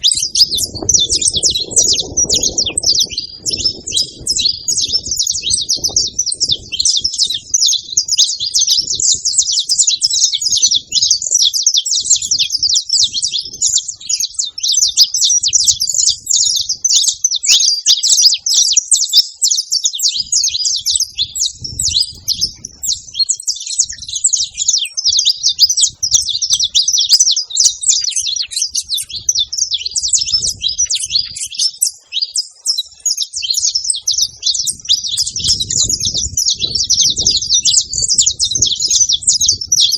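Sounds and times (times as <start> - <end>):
finches chirping and chattering: 0.0 - 39.9.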